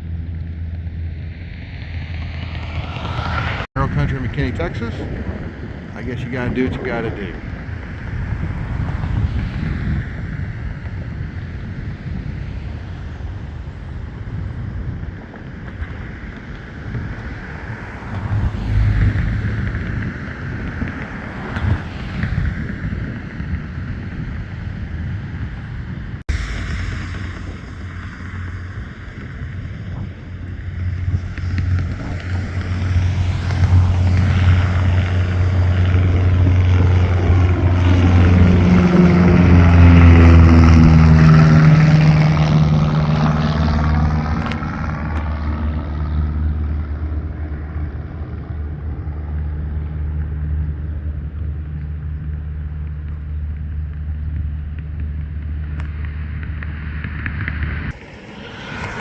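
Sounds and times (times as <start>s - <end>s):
propeller airplane passing by: 0.0s - 59.0s.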